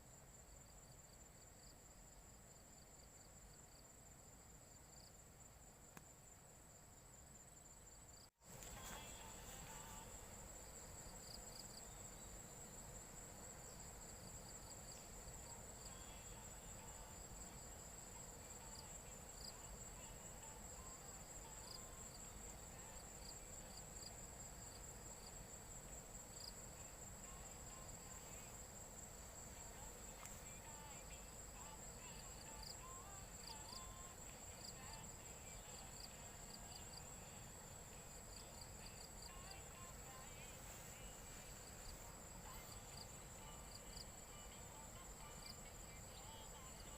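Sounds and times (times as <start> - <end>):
high-pitched insect trill: 7.5 - 46.9.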